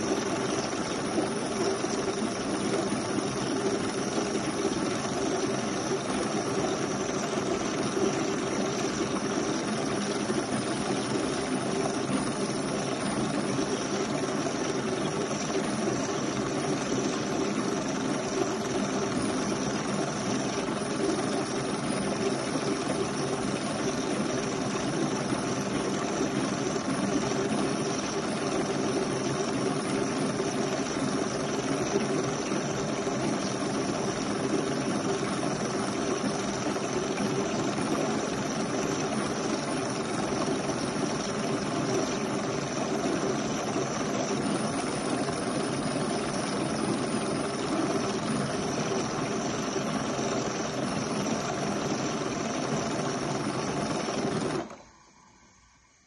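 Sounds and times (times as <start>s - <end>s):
espresso machine frothing milk: 0.0s - 56.0s.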